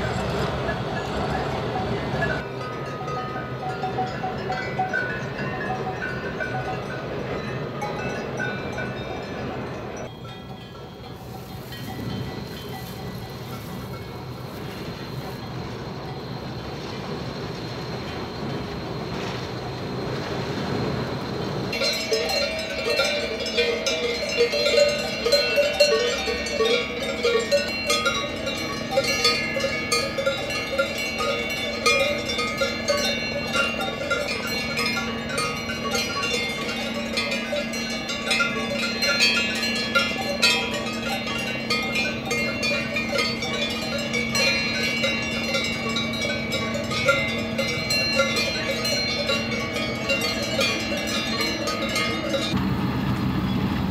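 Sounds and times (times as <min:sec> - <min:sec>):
cowbells clanking: 0:00.0 - 0:16.3, 0:21.7 - 0:52.6.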